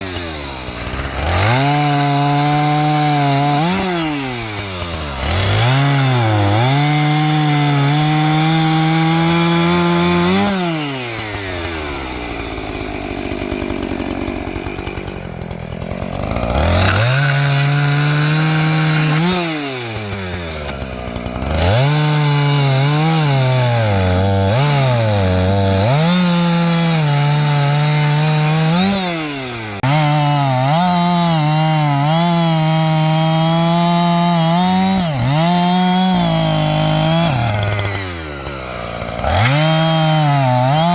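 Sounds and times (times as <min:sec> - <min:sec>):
chainsaw cutting logs: 0:00.0 - 0:40.9.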